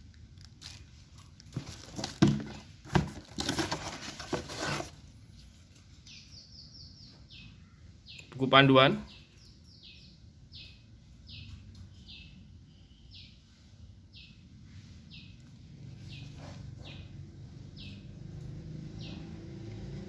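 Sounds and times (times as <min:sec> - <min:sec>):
bird chirping: 0:03.0 - 0:19.9.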